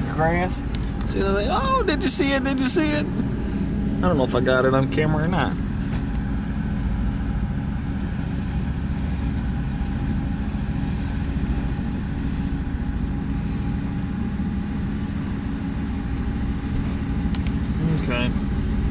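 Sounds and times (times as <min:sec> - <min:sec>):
boat engine droning: 0:00.0 - 0:18.9
faint steady hum: 0:00.0 - 0:18.9.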